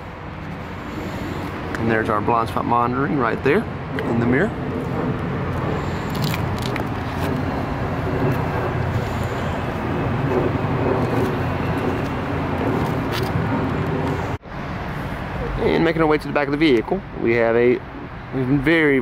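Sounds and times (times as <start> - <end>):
motor vehicle engine rumbling: 0.0 - 19.0.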